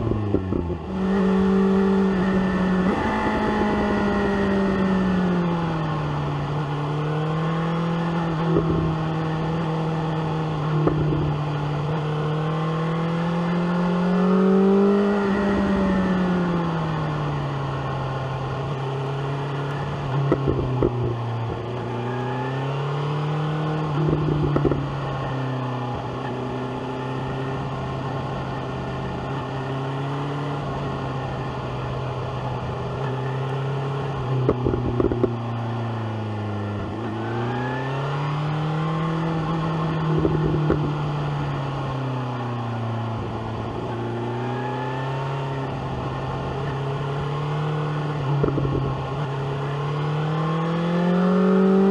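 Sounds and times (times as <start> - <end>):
motorcycle engine running: 0.0 - 22.1, 22.9 - 37.5, 38.6 - 44.4, 45.4 - 51.9.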